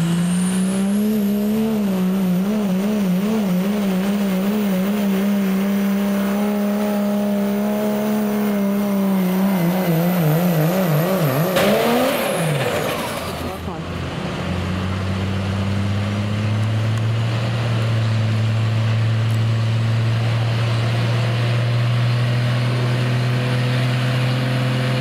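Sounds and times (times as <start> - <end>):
diesel truck engine high revs: 0.0 - 25.0.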